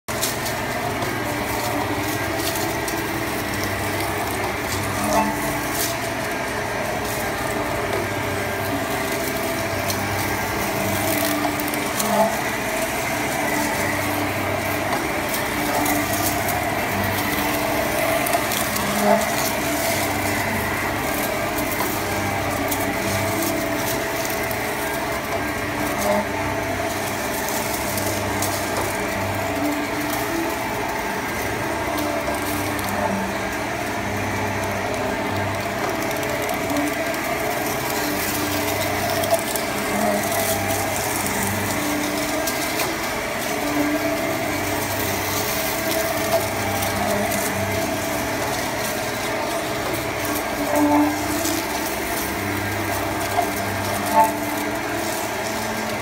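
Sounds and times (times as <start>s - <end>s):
pipe cutting machine droning: 0.0s - 56.0s.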